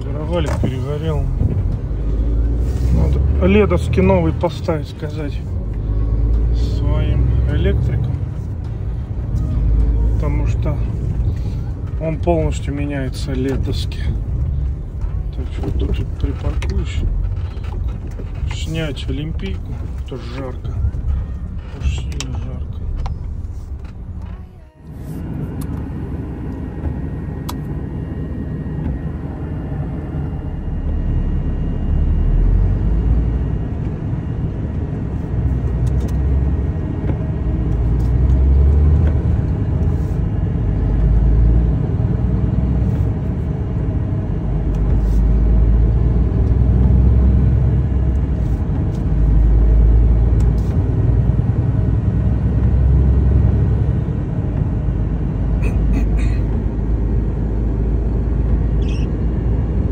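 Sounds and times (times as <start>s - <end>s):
truck engine and road rumble: 0.0s - 59.9s.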